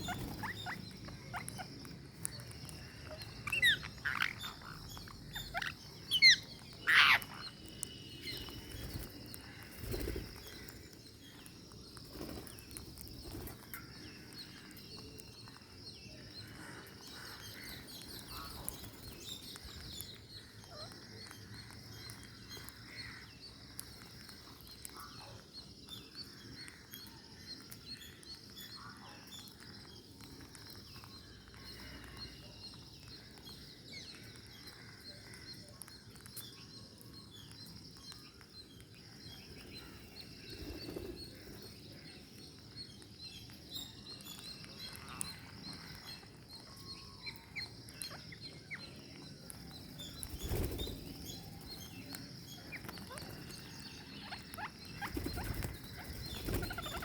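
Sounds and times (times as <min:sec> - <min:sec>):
bird chirps: 0:00.0 - 0:57.0.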